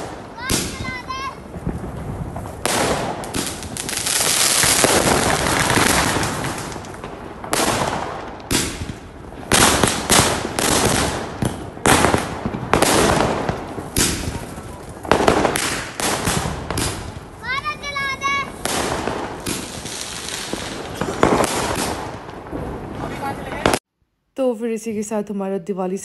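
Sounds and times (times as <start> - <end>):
firecracker bangs: 0.0 - 23.8
fireworks crackling: 0.0 - 23.9.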